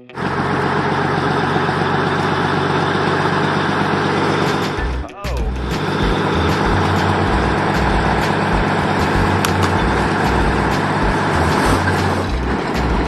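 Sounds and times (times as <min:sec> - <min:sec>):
heavy truck engine rumbling: 0:00.0 - 0:13.0.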